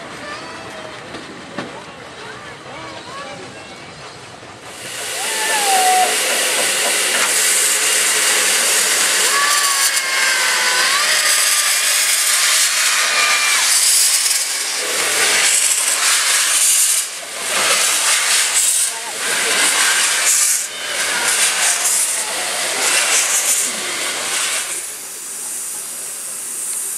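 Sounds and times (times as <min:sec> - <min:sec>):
steam locomotive puffs: 0:03.9 - 0:26.9
steam hissing: 0:04.6 - 0:26.9.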